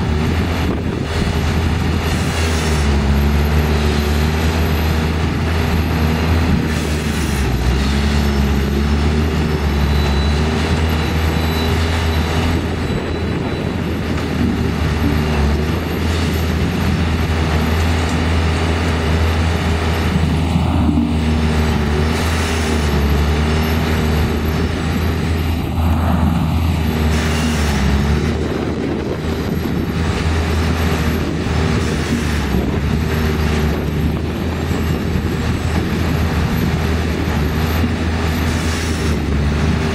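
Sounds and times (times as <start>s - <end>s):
machine engines droning: 0.0s - 39.9s.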